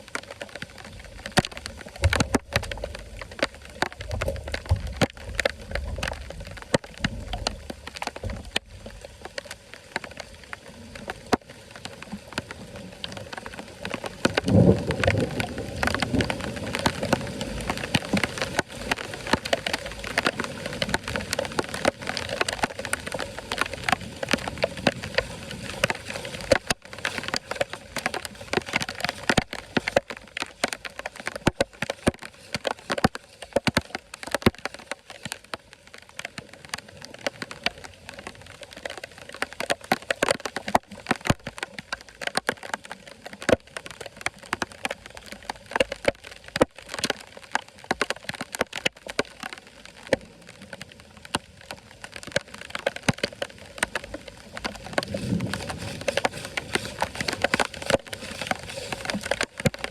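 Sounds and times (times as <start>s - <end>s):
sharp clicks and cracks: 0.0s - 59.9s
water splashing and pattering: 0.0s - 59.9s
water surging: 0.0s - 59.9s.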